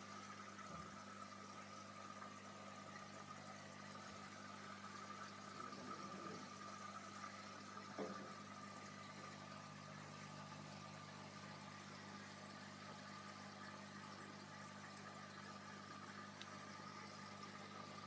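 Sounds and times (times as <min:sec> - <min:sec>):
bubbling hiss: 0:00.0 - 0:18.0.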